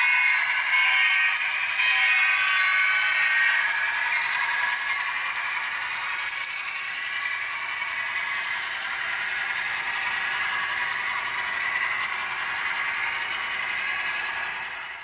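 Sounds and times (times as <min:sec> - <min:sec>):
model train cars rattling on track: 0:00.0 - 0:15.0.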